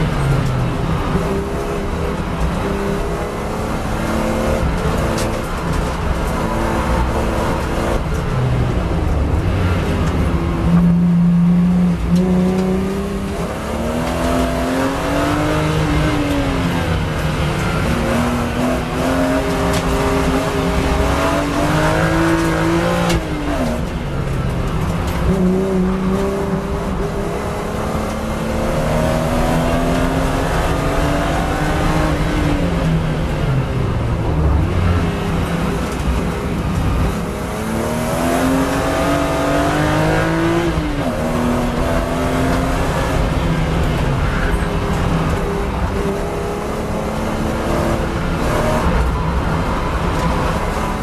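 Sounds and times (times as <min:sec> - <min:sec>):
car engine revving at full throttle: 0:00.0 - 0:51.0.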